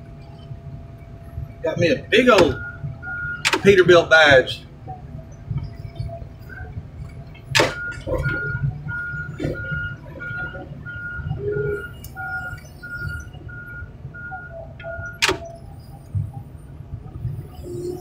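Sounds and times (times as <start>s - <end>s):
diesel engine running low: 0.0s - 18.0s
back-up alarm beeping: 0.2s - 4.5s, 5.2s - 16.6s.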